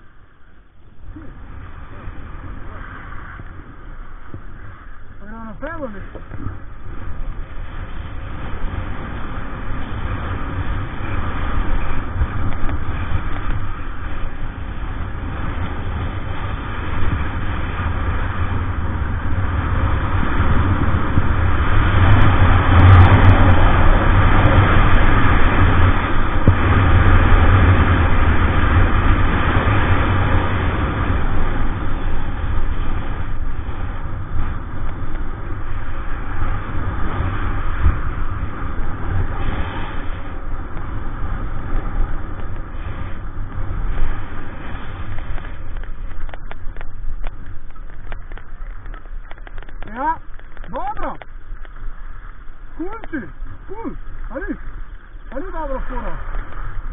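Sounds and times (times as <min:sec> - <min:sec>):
wind buffeting microphone: 0:00.0 - 0:56.9
skis scraping over snow: 0:01.0 - 0:56.9.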